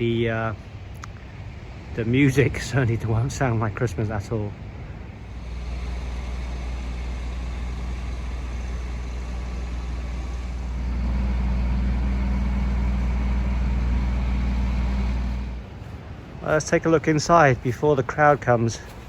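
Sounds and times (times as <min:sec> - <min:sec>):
engine rumble: 0:00.0 - 0:19.0.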